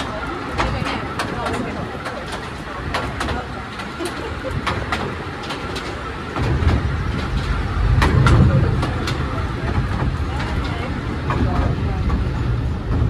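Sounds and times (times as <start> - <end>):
train low rumble: 0.0 - 13.0
wheels clicking on track: 0.0 - 13.0.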